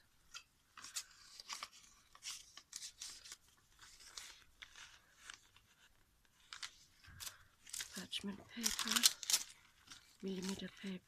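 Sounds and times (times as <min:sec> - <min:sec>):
paper rustling and scraping: 0:00.7 - 0:11.0.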